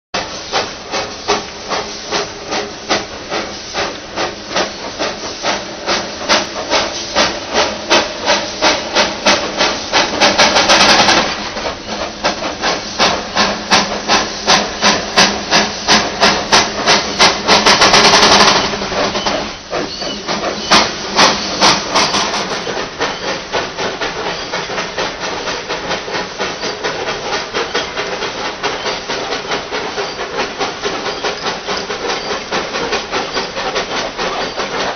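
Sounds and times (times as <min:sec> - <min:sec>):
steam hissing: 0:00.2 - 0:34.9
steam locomotive chuffing: 0:00.2 - 0:34.9.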